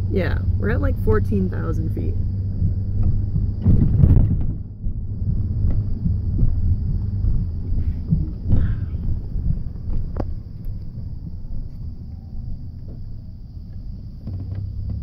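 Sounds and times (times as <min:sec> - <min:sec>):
rushes of noise: 0:00.0 - 0:14.8
car cabin rumble: 0:00.0 - 0:15.0.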